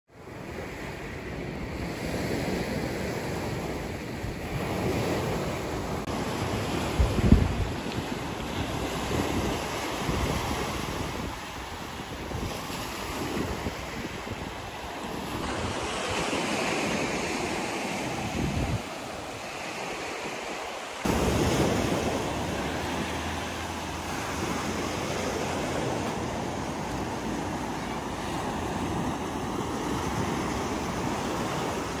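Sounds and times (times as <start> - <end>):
surf on pebbly beach: 0.1 - 32.0
wind rumbling on microphone: 0.3 - 32.0.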